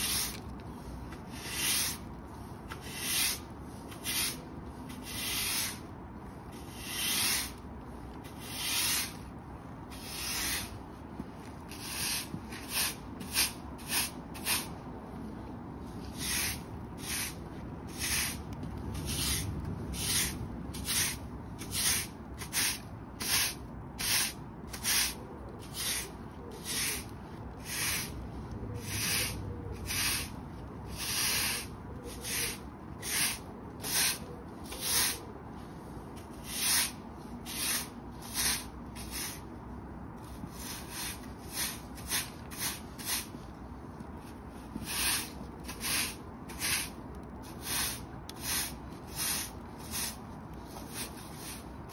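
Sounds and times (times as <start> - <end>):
broom sweeping concrete: 0.0 - 39.6, 40.2 - 51.9.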